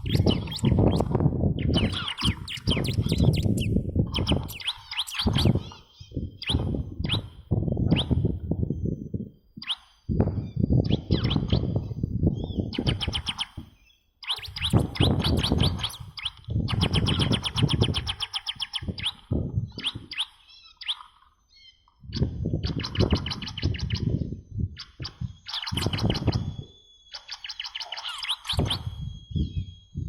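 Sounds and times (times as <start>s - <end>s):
bird chirping song: 0.0s - 30.0s.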